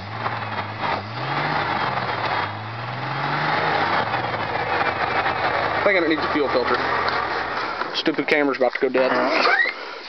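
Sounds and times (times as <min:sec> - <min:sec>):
truck engine revving: 0:00.0 - 0:08.3.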